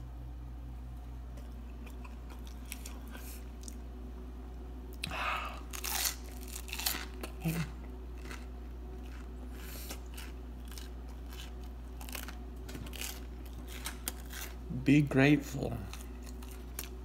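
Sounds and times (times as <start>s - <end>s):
crunching and chewing bread: 1.1s - 3.9s, 4.9s - 17.0s.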